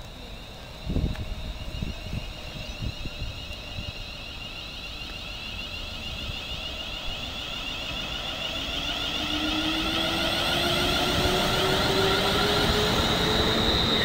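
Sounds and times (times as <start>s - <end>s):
electric train whining past: 0.0s - 14.0s.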